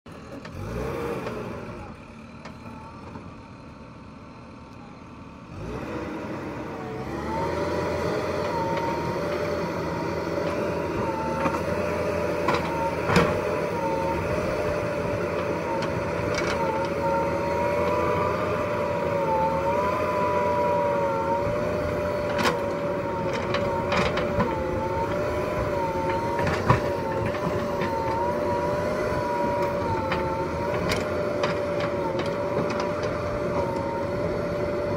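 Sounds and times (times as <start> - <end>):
diesel engine revving under load: 0.1 - 34.9
hydraulic arm whine: 5.6 - 34.9.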